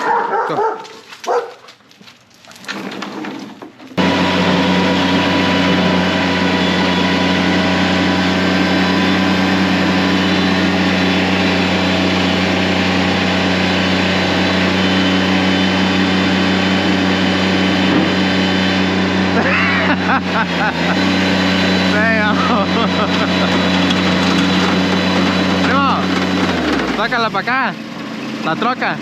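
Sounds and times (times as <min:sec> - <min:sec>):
motor vehicle engine running: 0:04.0 - 0:29.0.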